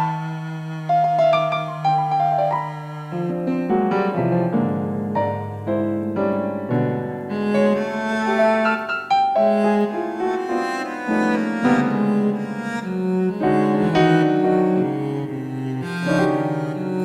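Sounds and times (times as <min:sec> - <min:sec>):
electronic keyboard improvisation: 0:00.0 - 0:17.0.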